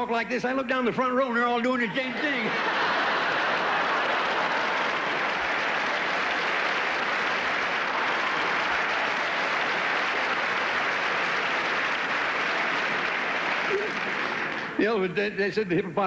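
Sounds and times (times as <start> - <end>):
audience laughing: 1.8 - 14.8
audience applauding: 2.0 - 15.1.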